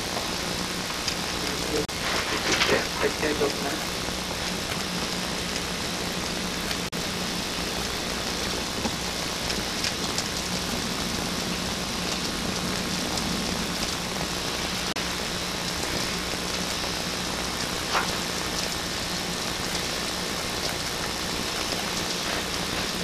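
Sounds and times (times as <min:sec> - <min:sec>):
low hum: 0:00.0 - 0:23.0
tape hiss: 0:00.0 - 0:23.0.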